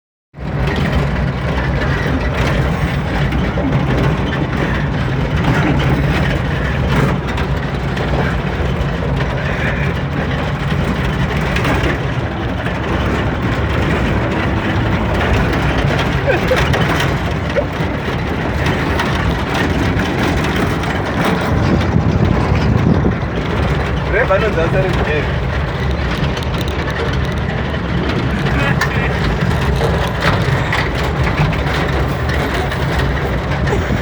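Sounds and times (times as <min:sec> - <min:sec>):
truck engine running: 0:00.4 - 0:34.0.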